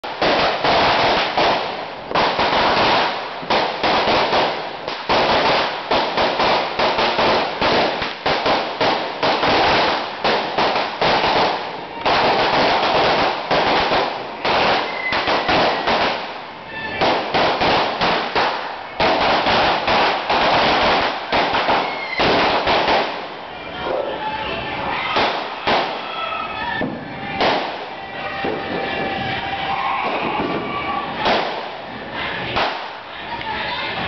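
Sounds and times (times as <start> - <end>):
firecrackers crackling: 0.0 - 34.0.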